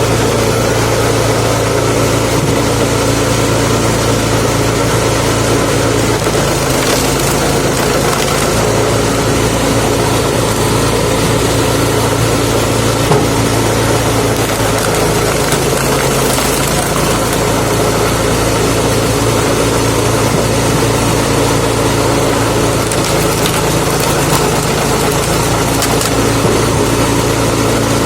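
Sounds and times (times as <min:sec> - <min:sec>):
petrol engine running: 0:00.0 - 0:28.0.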